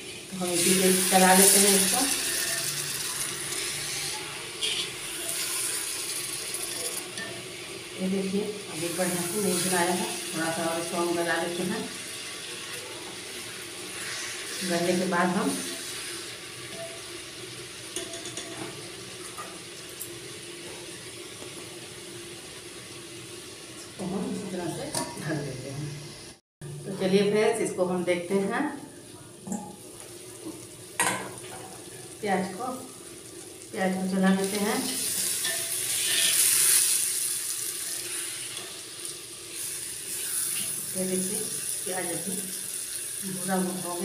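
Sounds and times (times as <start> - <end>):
onions sizzling in oil: 0.0 - 26.4, 29.3 - 44.0.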